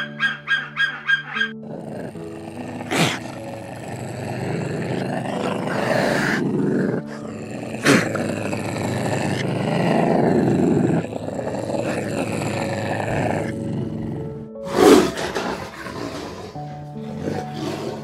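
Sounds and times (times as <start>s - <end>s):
soft background music: 0.0s - 18.0s
big cat growling roars: 1.6s - 18.0s.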